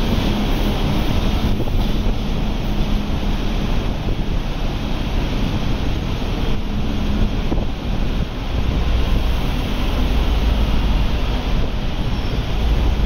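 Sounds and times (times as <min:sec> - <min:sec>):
electric train rumbling past: 0:00.0 - 0:13.0
wind buffeting microphone: 0:00.0 - 0:13.0.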